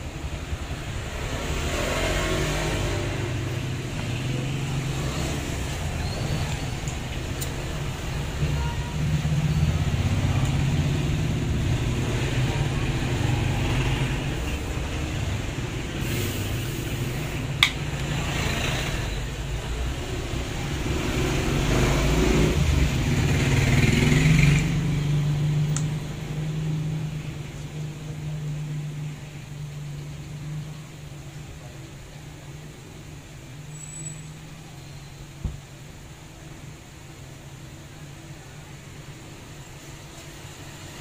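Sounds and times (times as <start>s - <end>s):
vehicle engine rumbling: 0.0s - 41.0s.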